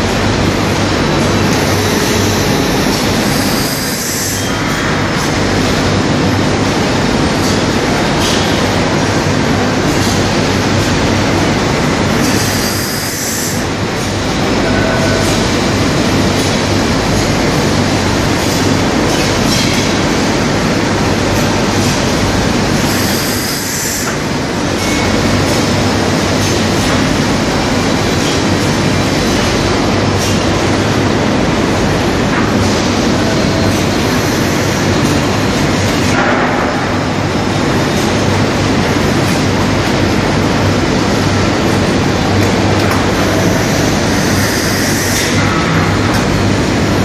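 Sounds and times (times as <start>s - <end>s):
cutting machine running: 0.0s - 47.0s.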